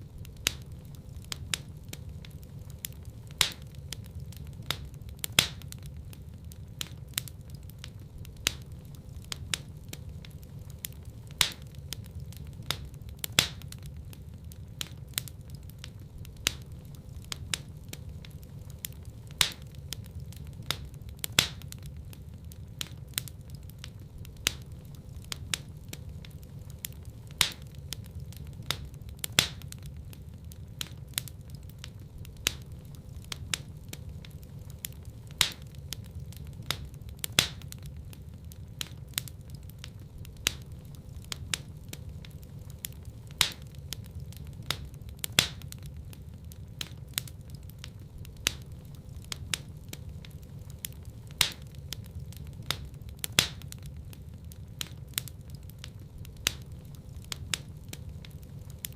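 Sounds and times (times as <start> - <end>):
loud fire pops: 0.0 - 58.9
low rumble of burning: 0.0 - 58.9
wood fire crackling: 0.0 - 58.9.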